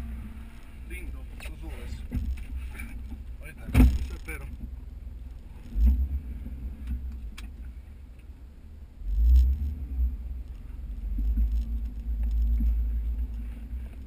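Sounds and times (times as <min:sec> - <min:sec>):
engine deep rumble: 0:00.0 - 0:14.0.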